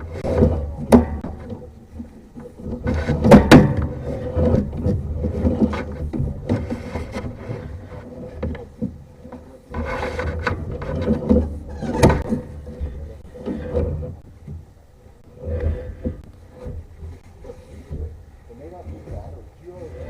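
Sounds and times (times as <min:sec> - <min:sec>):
rubbing and scraping: 0:00.0 - 0:20.0.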